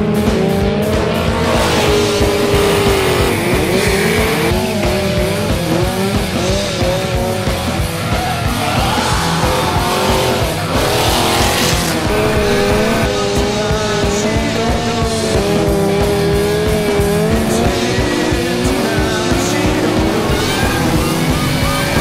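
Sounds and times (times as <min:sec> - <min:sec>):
car engine: 0:00.0 - 0:22.0
music with steady beat: 0:00.0 - 0:22.0
tires squealing: 0:00.0 - 0:22.0.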